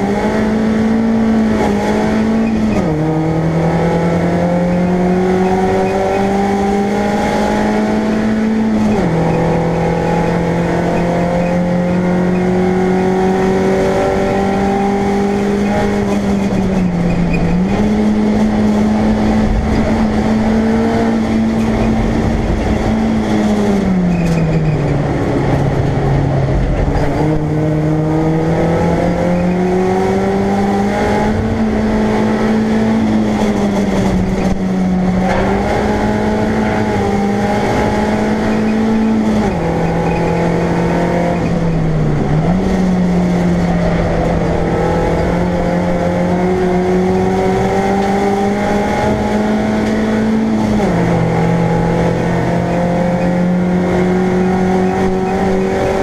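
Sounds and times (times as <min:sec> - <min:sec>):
race car engine under load: 0:00.0 - 0:56.0
road and wind noise: 0:00.0 - 0:56.0.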